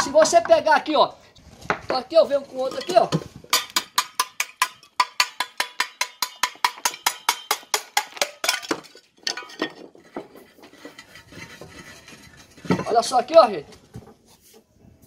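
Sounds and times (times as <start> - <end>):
scraping and handling of brick: 0.0 - 15.0.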